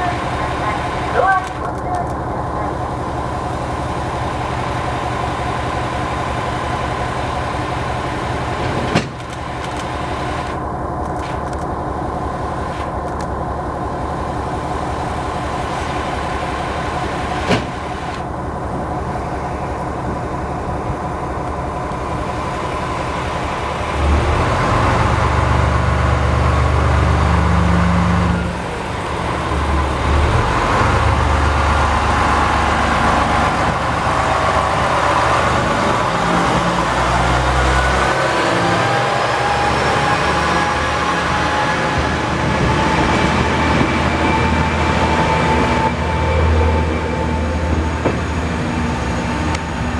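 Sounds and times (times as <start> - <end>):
diesel railcar engine: 0.0 - 49.9
rising whine of train: 0.0 - 49.9.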